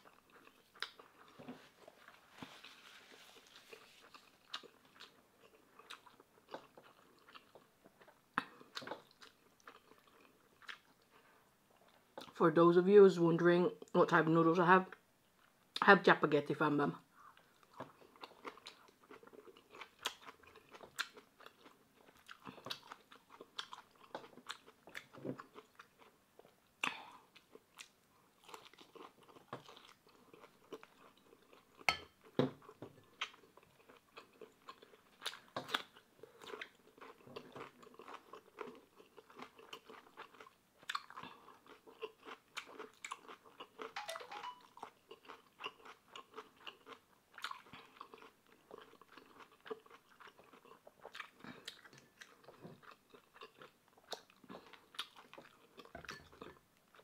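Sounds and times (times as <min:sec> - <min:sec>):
person chewing and crunching food: 0:00.0 - 0:12.4, 0:17.1 - 0:57.0.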